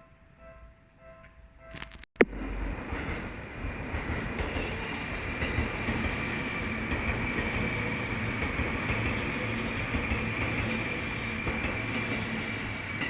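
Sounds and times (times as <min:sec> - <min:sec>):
train wheels rumbling on rails: 0:01.7 - 0:13.0.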